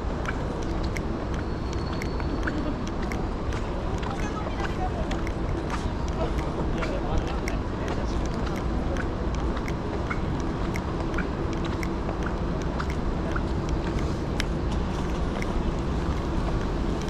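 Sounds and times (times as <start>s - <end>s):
rain on a street: 0.0s - 17.0s
street traffic rumble: 0.0s - 17.0s.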